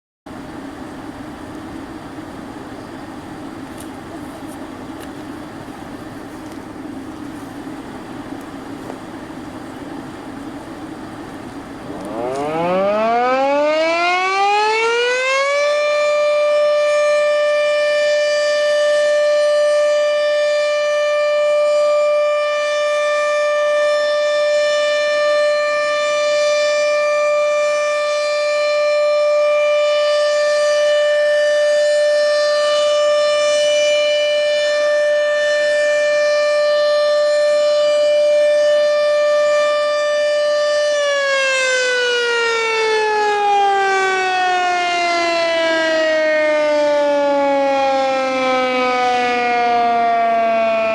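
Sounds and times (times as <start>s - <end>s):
electromechanical warning siren: 0.4s - 50.9s.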